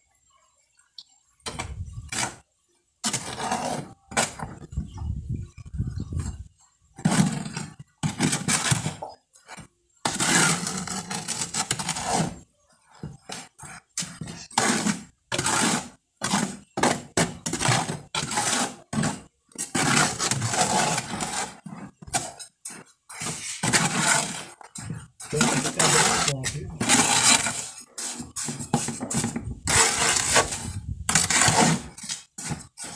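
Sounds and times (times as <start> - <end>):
trowel scraping wet cement mix: 1.5 - 2.4, 3.0 - 4.7, 7.0 - 32.9.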